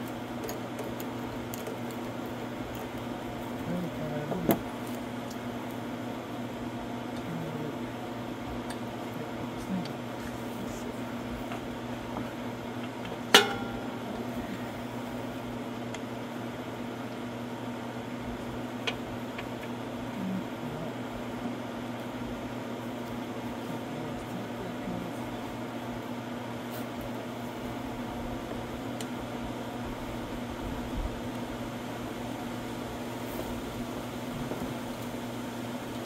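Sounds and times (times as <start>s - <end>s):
steady hum: 0.0s - 36.0s.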